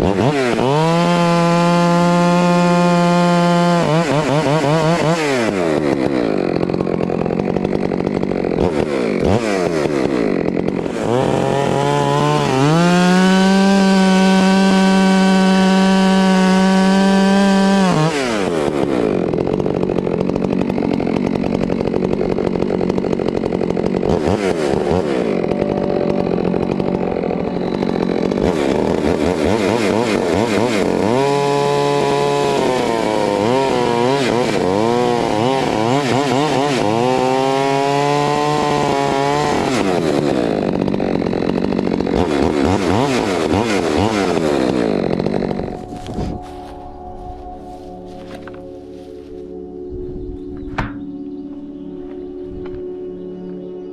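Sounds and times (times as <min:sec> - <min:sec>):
chainsaw revving through cut: 0:00.0 - 0:49.8.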